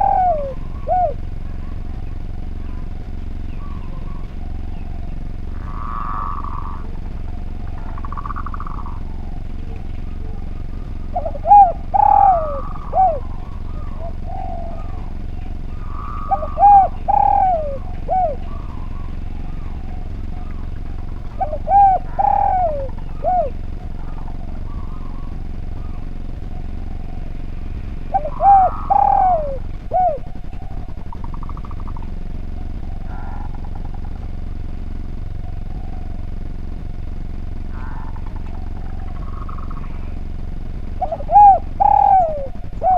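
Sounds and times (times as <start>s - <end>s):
dove cooing: 0.0s - 42.9s
steady low hum: 0.0s - 42.9s.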